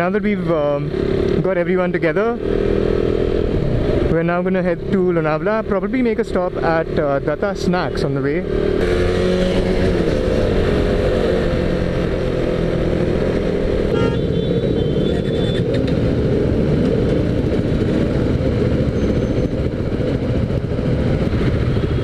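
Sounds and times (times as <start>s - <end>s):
motorcycle engine running: 0.0s - 22.0s
road noise: 0.0s - 22.0s.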